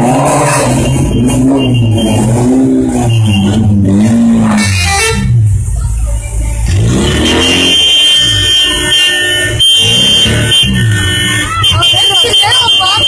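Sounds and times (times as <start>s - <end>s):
car horns sounding: 0.0s - 13.0s.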